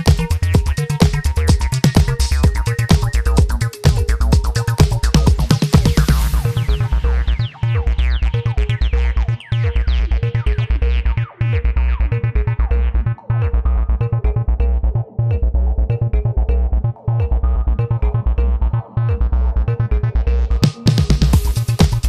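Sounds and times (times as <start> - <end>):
electronic music with heavy bass: 0.0 - 22.0.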